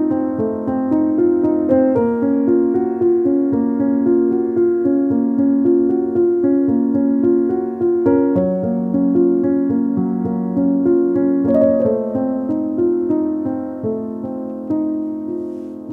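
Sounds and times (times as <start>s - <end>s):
piano melody: 0.0s - 15.9s.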